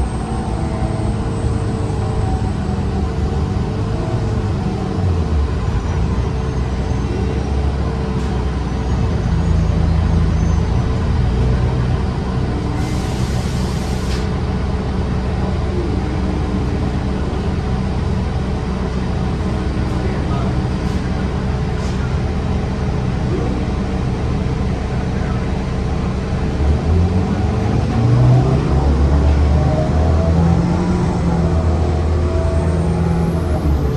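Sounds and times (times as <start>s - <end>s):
bus engine droning: 0.0s - 33.9s.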